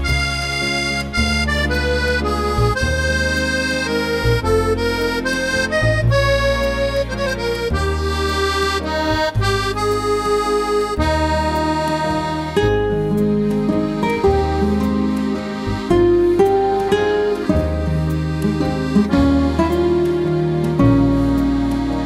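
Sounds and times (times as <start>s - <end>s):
instrumental background music: 0.0s - 22.0s.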